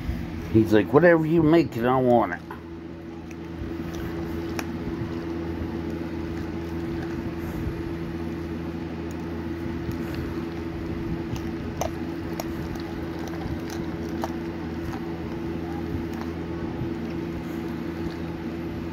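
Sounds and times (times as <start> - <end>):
steady low hum: 0.0 - 18.9
filling squishing in bowl: 3.1 - 18.9.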